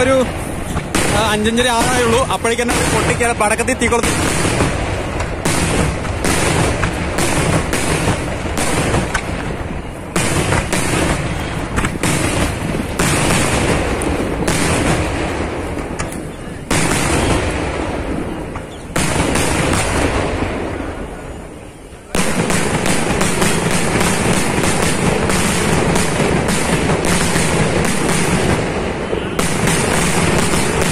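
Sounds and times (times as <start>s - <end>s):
fireworks bangs and cracks: 0.0s - 30.9s.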